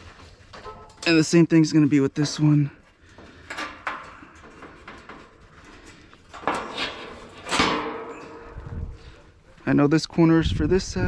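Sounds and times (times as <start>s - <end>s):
metal racks scraping and knocking: 0.0s - 9.6s.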